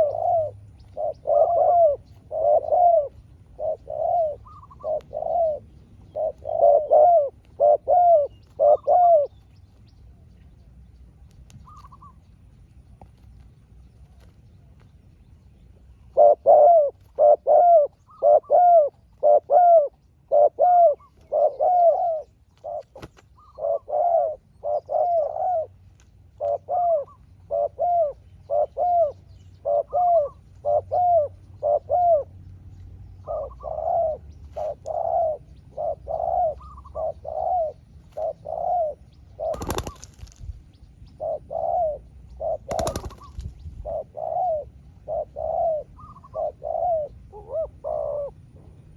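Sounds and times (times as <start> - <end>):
doves cooing: 0.0 - 9.6, 11.6 - 12.3, 16.1 - 32.4, 33.2 - 48.6.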